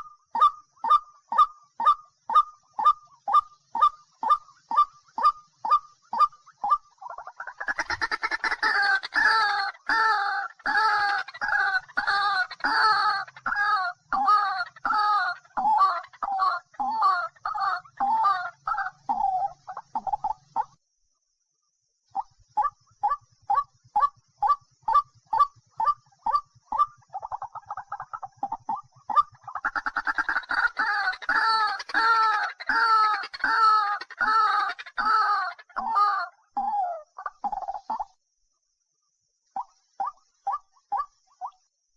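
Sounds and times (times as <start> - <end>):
bird calling loudly: 0.0 - 20.8, 22.2 - 38.1.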